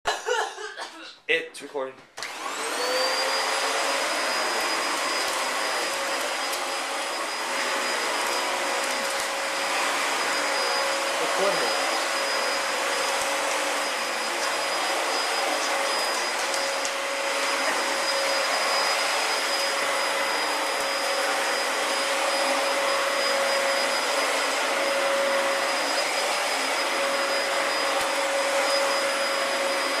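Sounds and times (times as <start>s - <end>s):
vacuum cleaner running: 2.2s - 30.0s.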